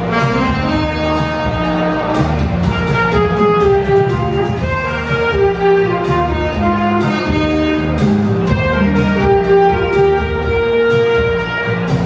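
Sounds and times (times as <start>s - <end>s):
backing track with bass and beat: 0.0s - 12.0s
saxophone duet: 0.0s - 12.0s.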